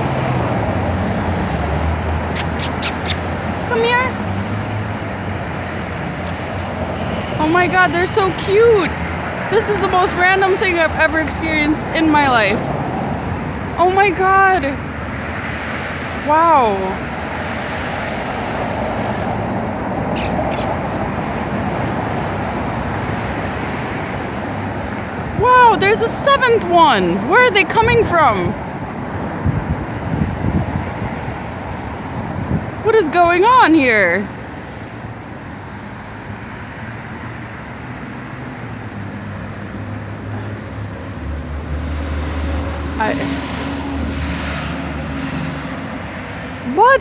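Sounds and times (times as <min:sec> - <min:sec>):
busy road traffic: 0:00.0 - 0:47.0
passing vehicle engine: 0:00.0 - 0:47.0.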